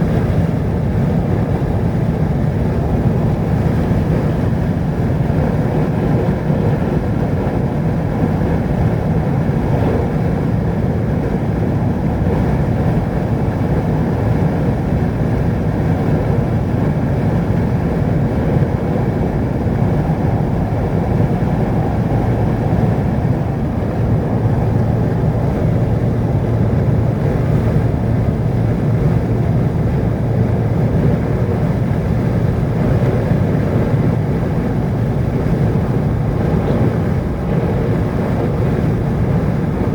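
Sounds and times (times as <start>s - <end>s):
vehicle driving on road: 0.0s - 39.9s.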